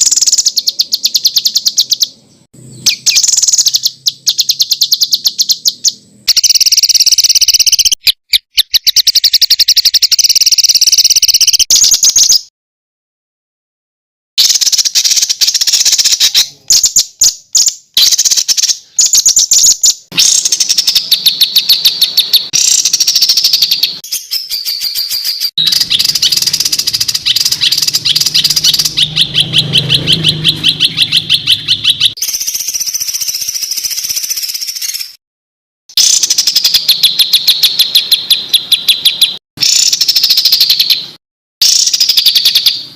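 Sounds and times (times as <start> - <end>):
bird rapid high trills: 0.0 - 12.5, 14.4 - 35.2, 35.9 - 42.9
songbird harsh repeated notes: 0.0 - 12.5, 14.4 - 35.2, 35.9 - 42.9.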